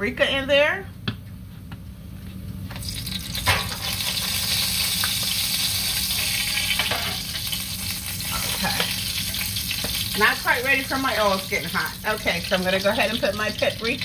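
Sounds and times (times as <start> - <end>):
oil sizzling in frying pan: 2.7 - 14.0.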